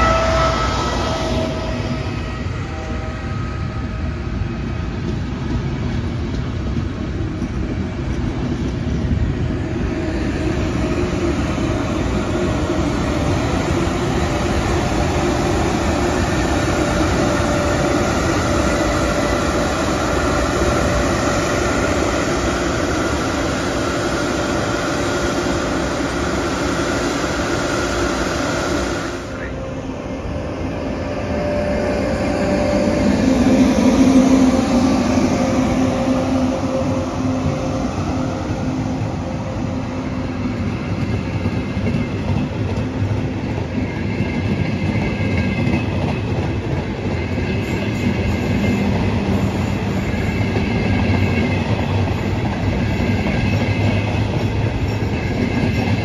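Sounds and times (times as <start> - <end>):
train wheels rumbling on rails: 0.0 - 56.0
steady whine: 9.1 - 55.7.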